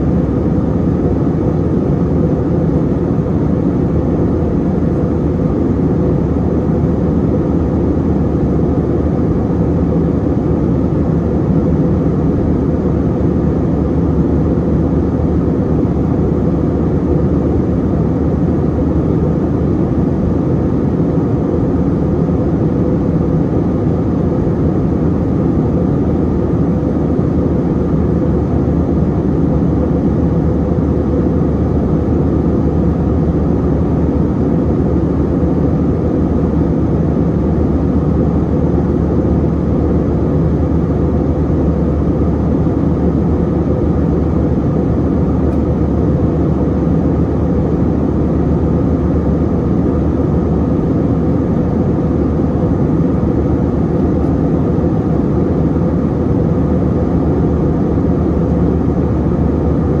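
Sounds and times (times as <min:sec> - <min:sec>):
aircraft cabin engine drone: 0:00.0 - 1:00.0
faint steady hum: 0:00.0 - 1:00.0.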